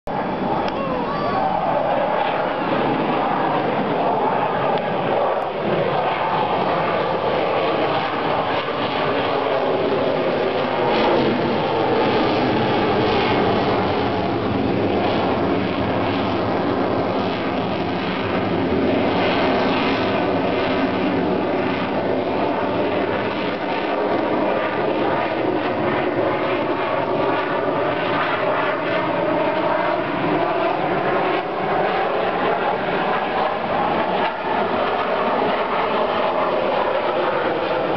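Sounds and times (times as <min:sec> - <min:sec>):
fighter jet engine roar: 0:00.1 - 0:37.9.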